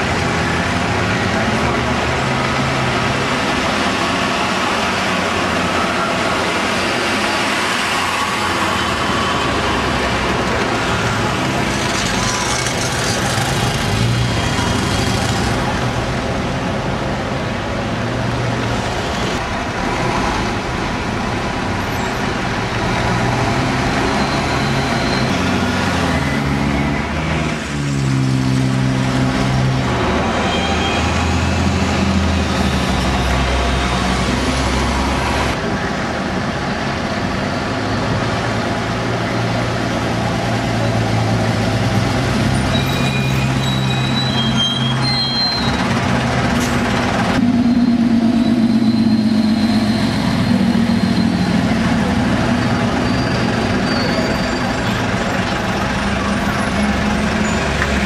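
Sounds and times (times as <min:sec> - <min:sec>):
diesel bus engines: 0:00.0 - 0:58.0
street traffic: 0:00.0 - 0:58.0.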